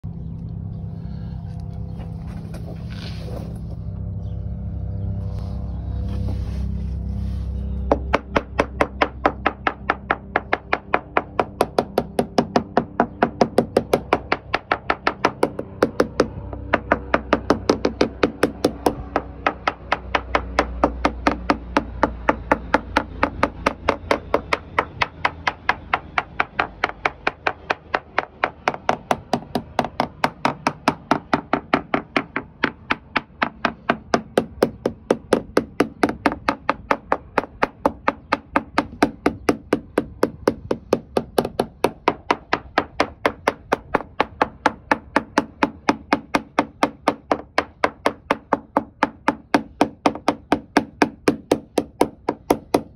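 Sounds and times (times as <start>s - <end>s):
hammer tapping on fiberglass: 7.8s - 52.9s.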